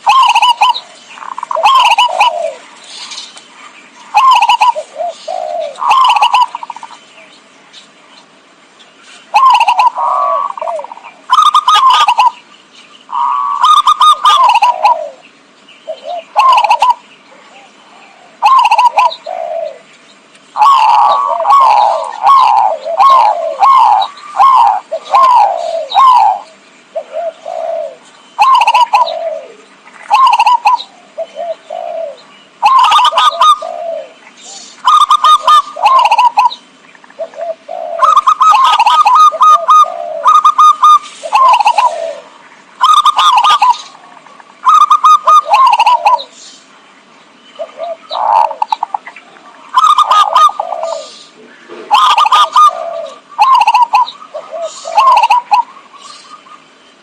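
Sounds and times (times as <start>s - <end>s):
dove cooing: 0.0s - 7.1s, 9.2s - 12.4s, 13.1s - 19.9s, 20.5s - 46.4s, 47.6s - 56.7s.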